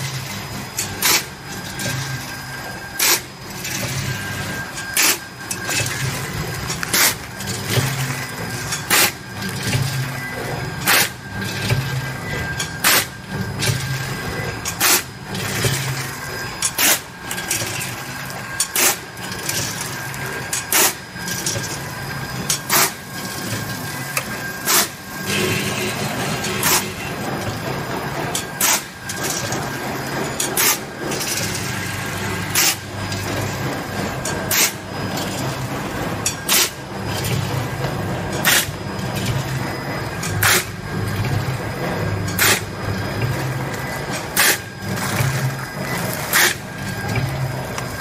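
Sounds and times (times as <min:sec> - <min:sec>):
packing machine clacking: 0:00.0 - 0:48.0.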